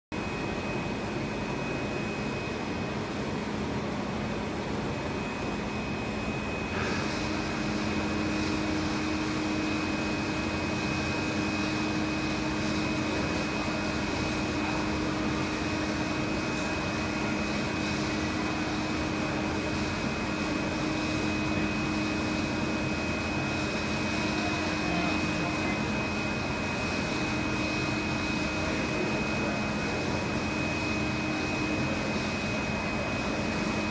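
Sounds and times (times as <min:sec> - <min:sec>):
printer whirring with high whine: 0:00.1 - 0:33.9.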